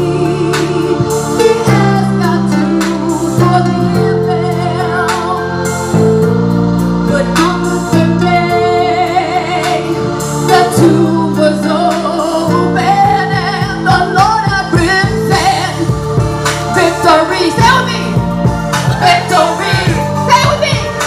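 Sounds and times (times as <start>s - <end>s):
person singing gospel: 0.0s - 6.0s, 6.8s - 21.0s.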